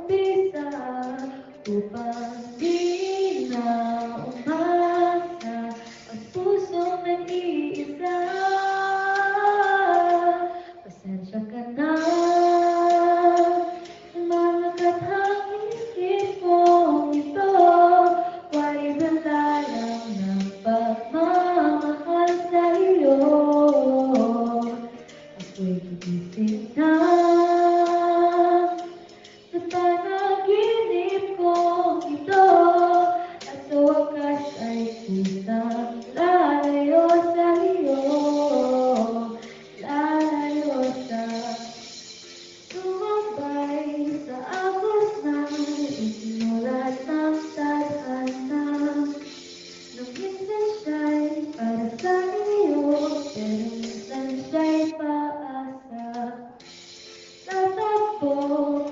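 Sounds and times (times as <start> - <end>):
woman singing a slow ballad: 0.0 - 42.0, 42.7 - 56.7, 57.4 - 58.9.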